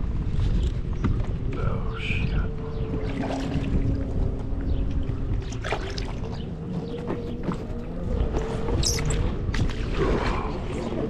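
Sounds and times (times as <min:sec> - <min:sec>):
watercraft engine running: 0:00.0 - 0:11.0
wind on microphone: 0:00.0 - 0:11.0
water splashing: 0:01.3 - 0:11.0.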